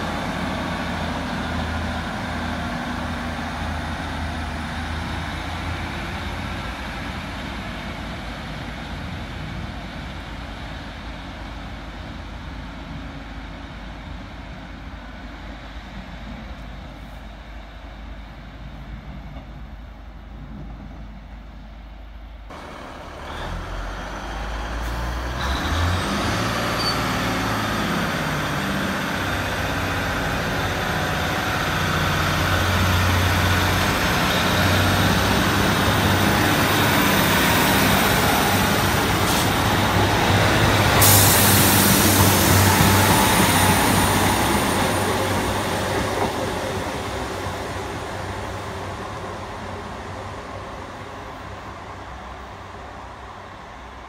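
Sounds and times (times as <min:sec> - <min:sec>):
diesel train engine drone: 0:00.0 - 0:54.0
diesel train passing: 0:00.0 - 0:54.0.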